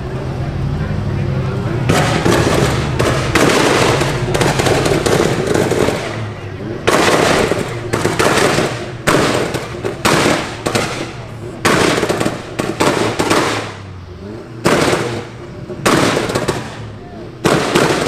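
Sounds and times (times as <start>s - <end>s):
crackling bangs and popping: 1.8s - 18.0s.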